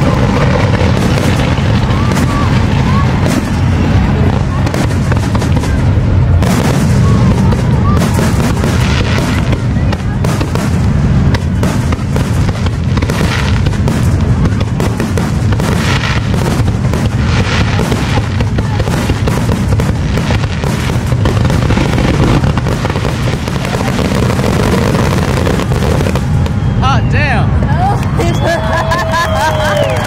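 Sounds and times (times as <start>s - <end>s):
fireworks booming: 0.0s - 30.0s.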